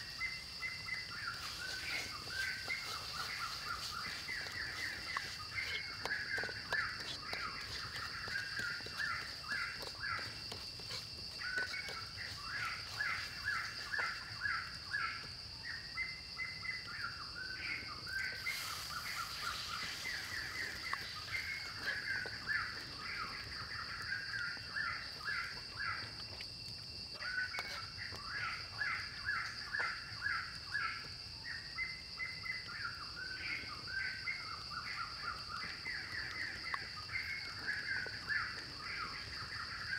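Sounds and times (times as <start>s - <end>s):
birds chirping: 0.0s - 26.4s, 27.0s - 39.9s
high-pitched insect drone: 0.0s - 39.9s.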